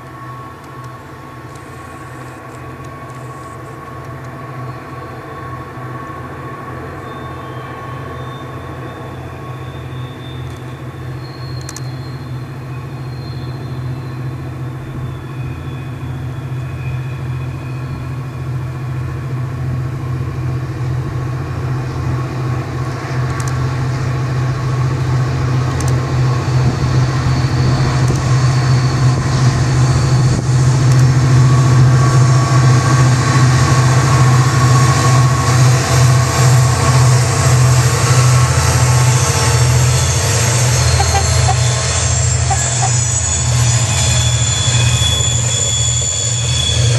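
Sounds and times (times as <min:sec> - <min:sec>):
diesel locomotive engine humming: 0:00.0 - 0:46.9.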